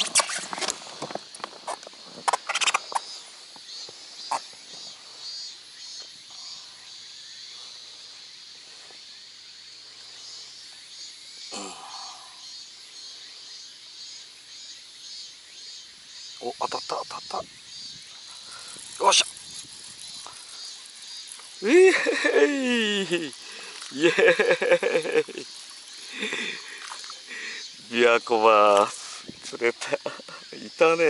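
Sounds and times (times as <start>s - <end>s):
steady high hiss: 0.0s - 31.0s.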